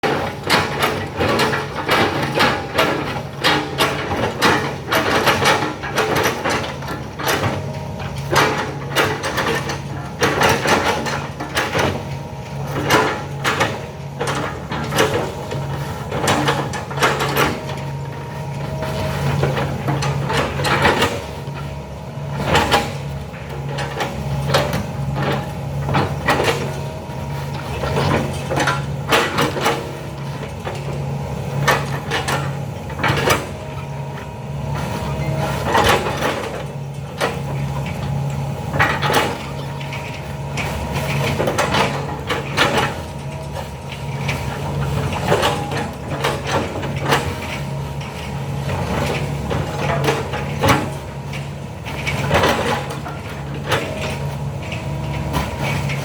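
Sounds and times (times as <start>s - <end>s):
excavator bucket clanking: 0.0s - 56.0s
excavator diesel engine running: 0.0s - 56.0s.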